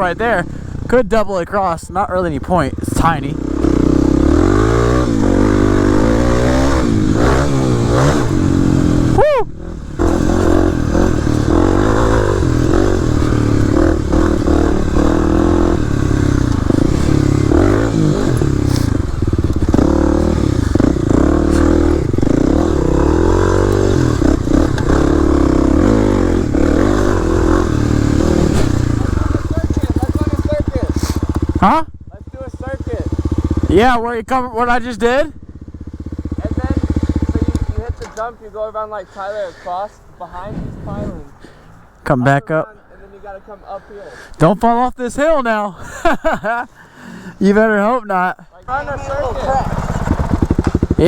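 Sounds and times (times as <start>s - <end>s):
dirt bike engine revving: 0.0s - 0.9s, 1.5s - 39.7s, 48.7s - 51.0s.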